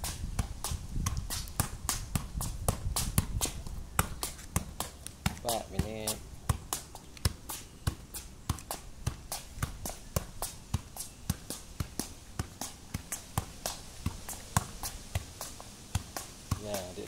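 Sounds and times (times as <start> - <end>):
football kicked on concrete: 0.0 - 17.0.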